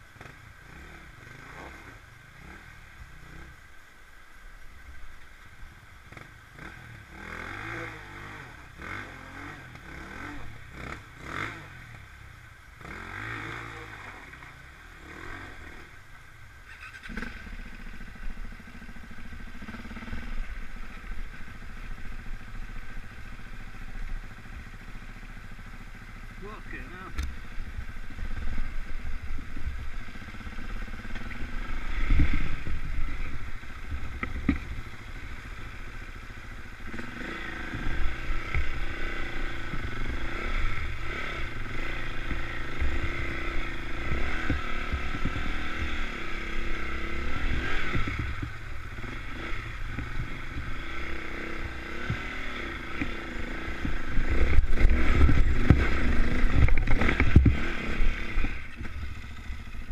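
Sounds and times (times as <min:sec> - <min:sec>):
motorbike engine revving: 0:00.0 - 0:03.6, 0:06.1 - 0:12.0, 0:12.7 - 0:16.0, 0:16.6 - 0:59.9.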